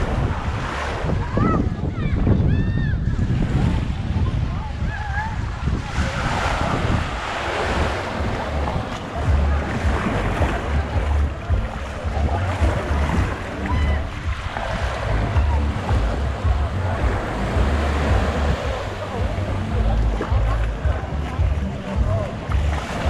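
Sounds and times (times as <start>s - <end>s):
faint distant voices: 0.0s - 23.0s
surf washing onto beach: 0.0s - 23.0s
wind buffeting microphone: 0.0s - 23.0s.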